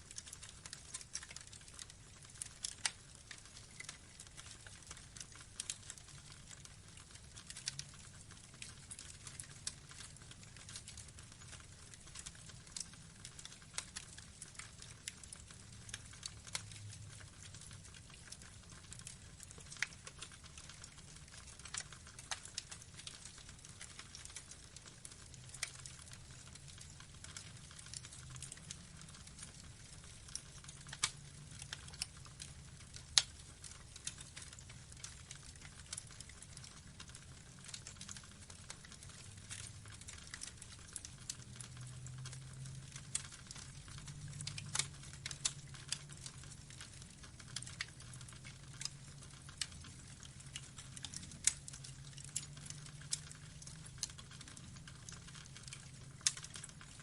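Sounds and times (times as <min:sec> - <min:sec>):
burning logs crackling: 0:00.0 - 0:57.0
low rumble of flames: 0:00.1 - 0:57.0.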